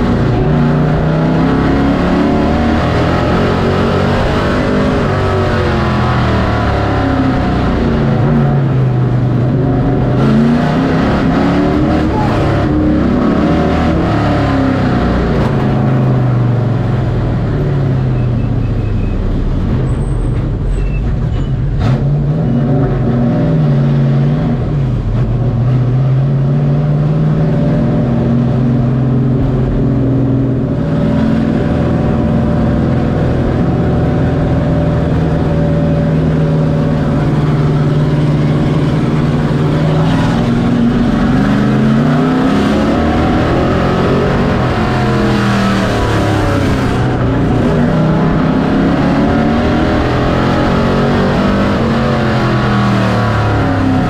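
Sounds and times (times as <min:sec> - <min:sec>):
race truck engine: 0:00.0 - 0:54.0.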